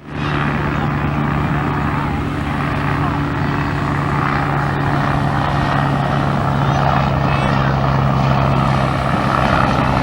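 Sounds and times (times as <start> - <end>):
propeller aircraft engine droning: 0.0 - 10.0.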